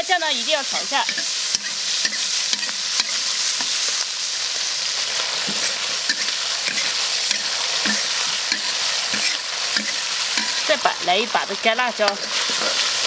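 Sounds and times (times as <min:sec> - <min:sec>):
oil sizzling in a wok: 0:00.0 - 0:13.0
metal spatula scraping a wok: 0:01.0 - 0:10.9, 0:12.0 - 0:13.0.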